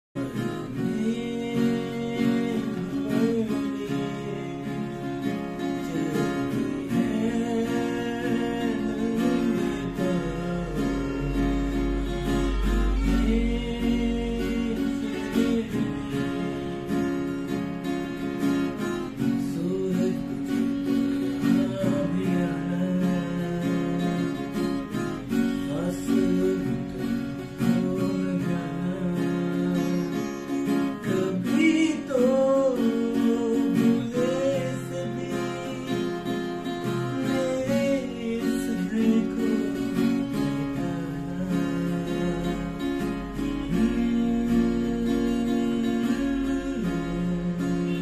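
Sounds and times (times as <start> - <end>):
acoustic guitar strumming chords: 0.2 - 48.0
man singing: 0.2 - 48.0.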